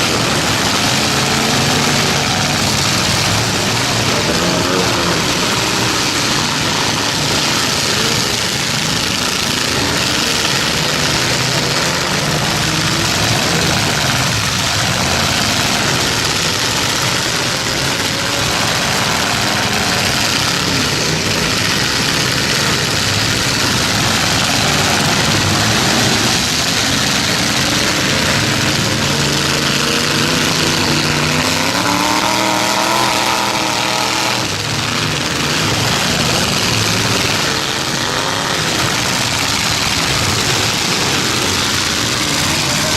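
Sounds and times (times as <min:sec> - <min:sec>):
truck engines revving: 0:00.0 - 0:42.9.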